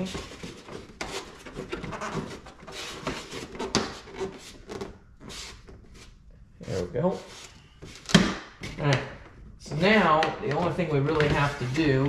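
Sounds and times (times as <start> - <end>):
rubbing and scraping on plastic: 0.0 - 8.9, 9.7 - 12.0.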